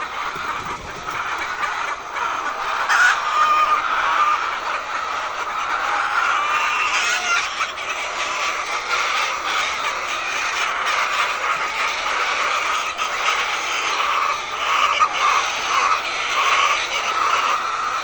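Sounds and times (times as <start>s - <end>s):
hens clucking: 0.0s - 18.0s.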